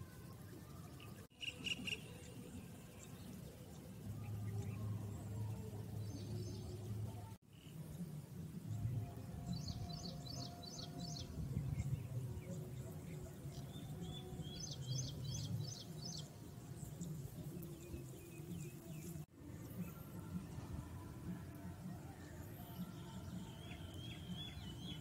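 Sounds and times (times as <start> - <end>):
low outdoor rumble: 2.0 - 25.0.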